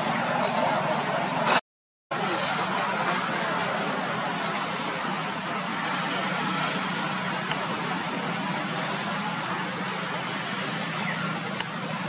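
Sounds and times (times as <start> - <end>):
distant road traffic: 0.0 - 12.0.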